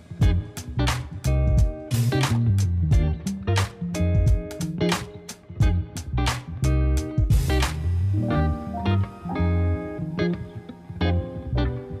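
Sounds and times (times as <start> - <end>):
low bass notes: 0.0 - 4.9, 5.6 - 10.4
plucked guitar: 0.0 - 12.0.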